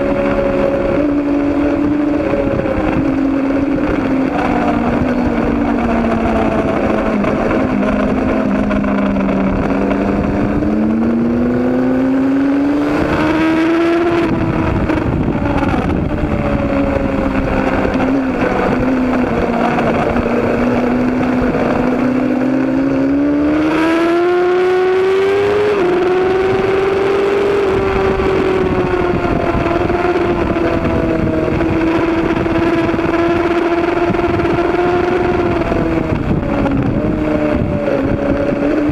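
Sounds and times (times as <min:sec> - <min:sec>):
racing motorcycle engine revving: 0:00.0 - 0:38.9
wind noise: 0:00.0 - 0:38.9.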